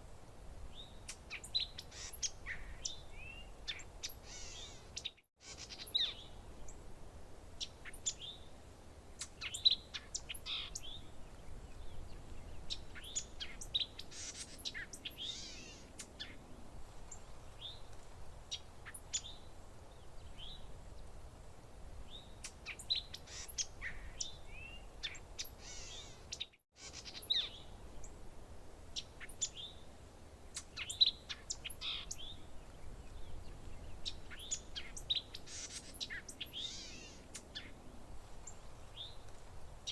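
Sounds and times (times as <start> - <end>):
faint background hiss: 0.0 - 39.9
songbirds chirping: 0.1 - 39.9.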